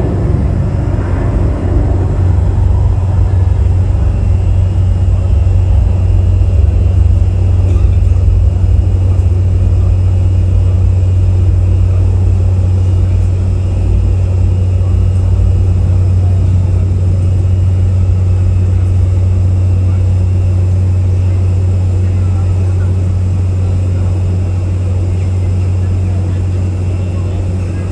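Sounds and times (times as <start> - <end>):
jet engines rumbling: 0.0 - 27.9.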